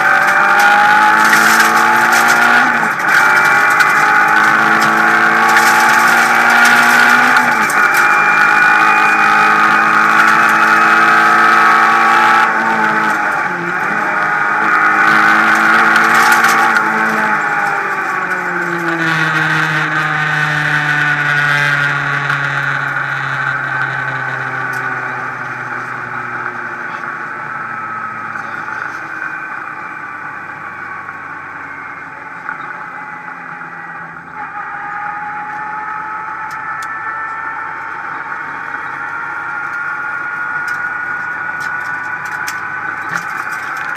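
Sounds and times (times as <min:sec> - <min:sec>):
rally car engine from inside cabin: 0:00.0 - 0:43.9.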